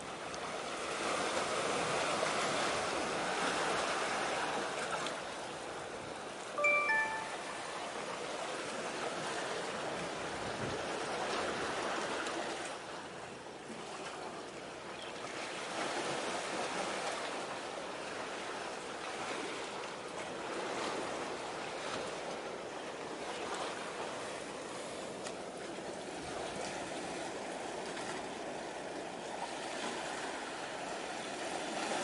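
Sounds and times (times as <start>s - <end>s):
small waves washing on shore: 0.0s - 32.0s.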